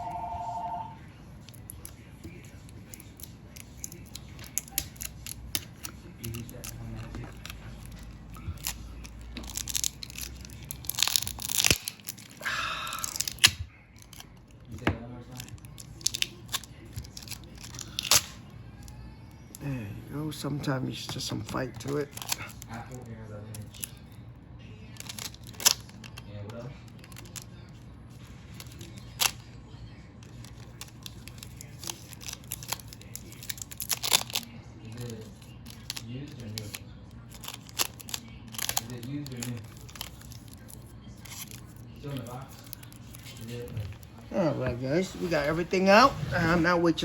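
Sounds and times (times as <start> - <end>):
adhesive crackling and tearing: 1.5 - 19.6, 21.6 - 24.2, 24.9 - 29.5, 30.2 - 44.2.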